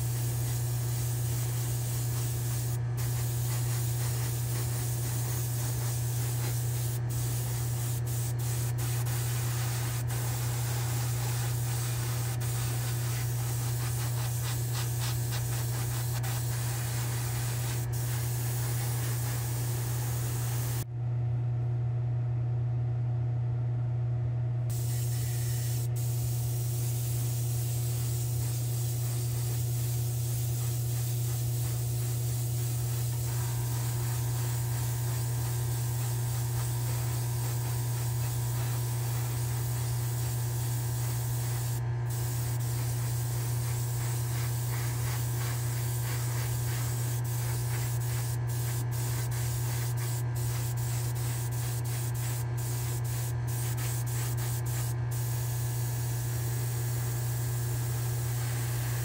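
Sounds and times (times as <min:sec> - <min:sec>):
airbrush spraying hiss: 0:00.0 - 0:20.9, 0:24.7 - 0:59.0.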